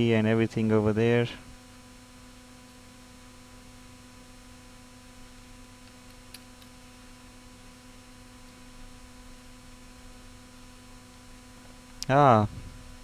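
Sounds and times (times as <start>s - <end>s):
faint electrical mains hum: 0.0s - 13.0s.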